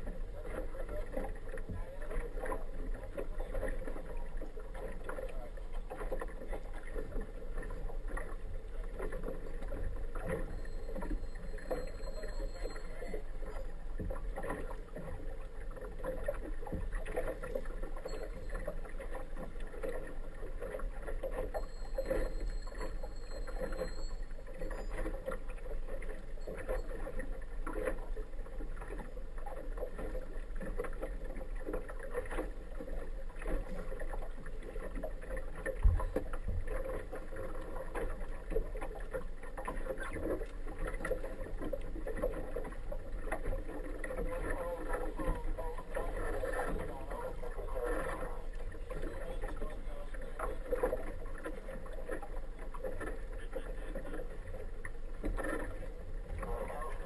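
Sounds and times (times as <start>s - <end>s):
outboard motor drone: 0.0s - 57.0s
water lapping against hull: 0.0s - 57.0s.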